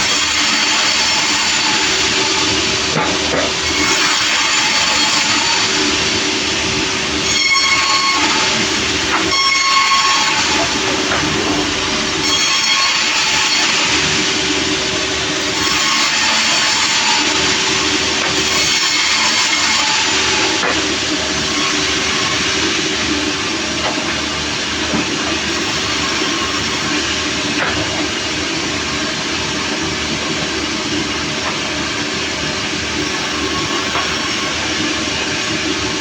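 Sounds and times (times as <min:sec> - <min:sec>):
saw blade whines: 0:00.0 - 0:36.0
sawmill engine drone: 0:00.0 - 0:36.0.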